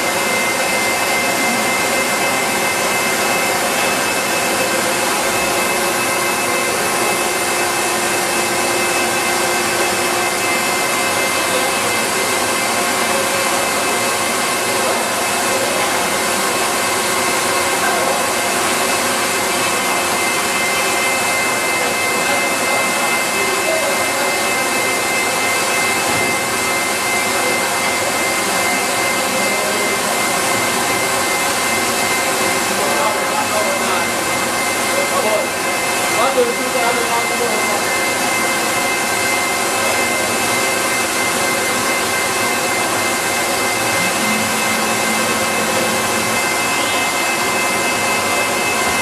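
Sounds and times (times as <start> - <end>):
high machine whine: 0.0 - 49.0
machinery drone: 0.0 - 49.0.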